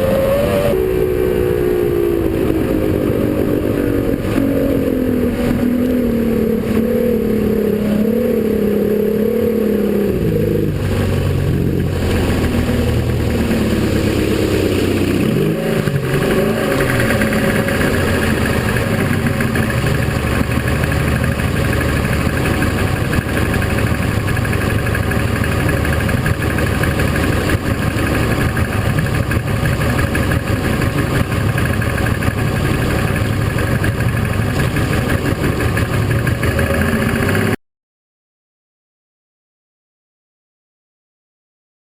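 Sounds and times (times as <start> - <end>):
broad rushing noise: 0.0 - 37.6
powerboat engine revving: 0.0 - 37.6.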